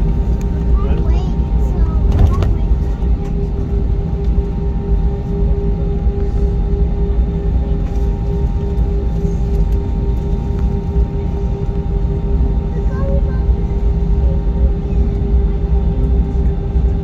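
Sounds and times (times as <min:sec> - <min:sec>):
aircraft cabin engine rumble: 0:00.0 - 0:17.0.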